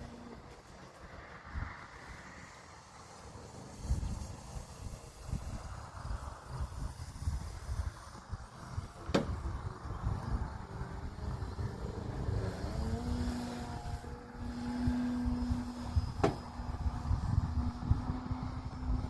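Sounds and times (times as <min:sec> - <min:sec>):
model airplane motor whining: 0:00.0 - 0:19.0.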